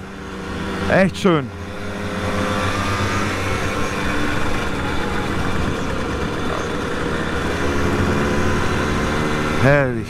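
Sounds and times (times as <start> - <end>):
road and wind noise: 0.0 - 10.0
vehicle engine running: 0.0 - 10.0.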